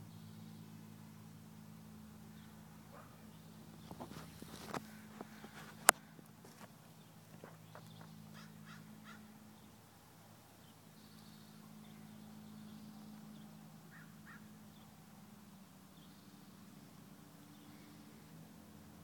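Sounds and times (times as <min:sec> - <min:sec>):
distant bird calls: 0:00.0 - 0:19.0
low steady hum: 0:00.0 - 0:19.0.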